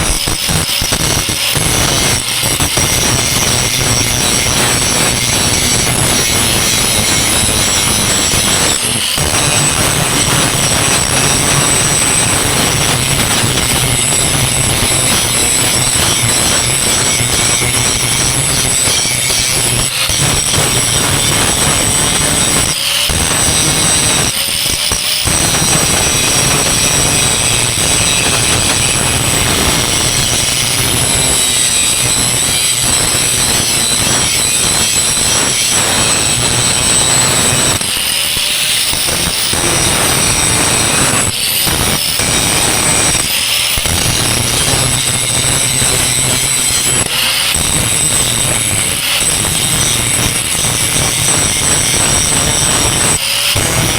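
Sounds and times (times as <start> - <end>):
angle grinder grinding steel: 0.0 - 53.9.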